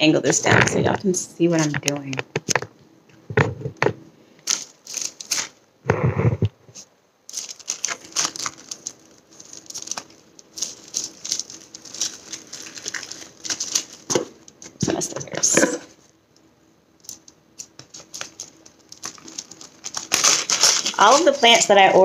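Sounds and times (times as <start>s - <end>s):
plastic sleeve crinkling: 0.0s - 2.7s, 3.4s - 5.8s, 6.7s - 22.0s.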